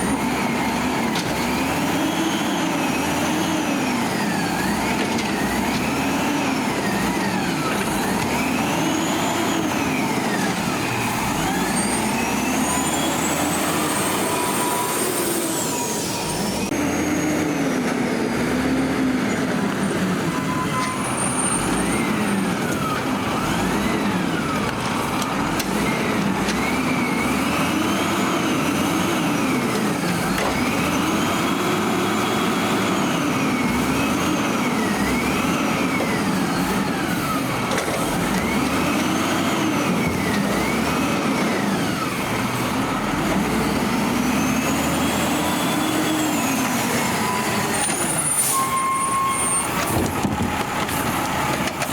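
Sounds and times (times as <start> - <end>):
garbage truck diesel engine revving: 0.0 - 51.9.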